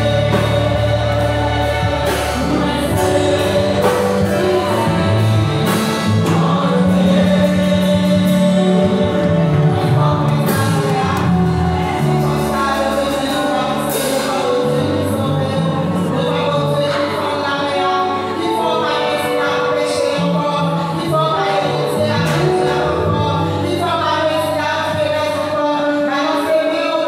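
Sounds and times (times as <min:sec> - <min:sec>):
congregation singing: 0:00.0 - 0:27.0
instrumental backing: 0:00.0 - 0:27.0.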